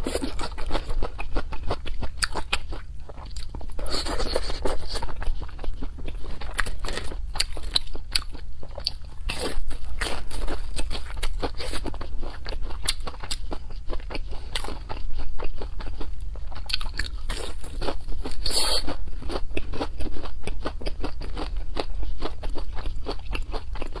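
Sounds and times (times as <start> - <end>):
crunching and chewing fried cutlet: 0.0 - 24.0
steady low hum: 0.0 - 24.0.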